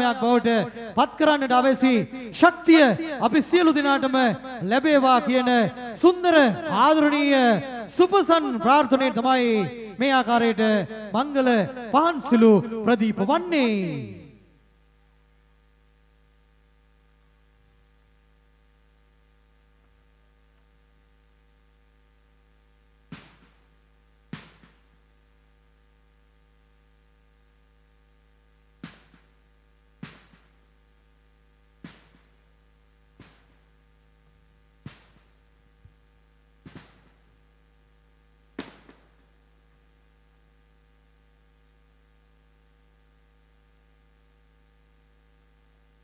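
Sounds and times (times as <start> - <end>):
sound system electrical hum: 0.0 - 46.0.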